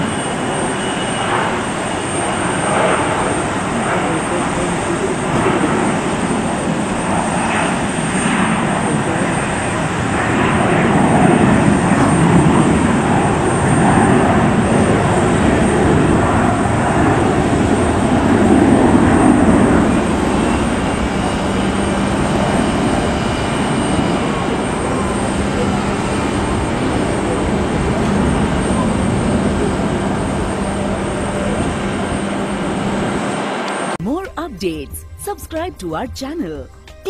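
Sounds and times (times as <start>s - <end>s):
jet engines at takeoff power: 0.0s - 34.0s.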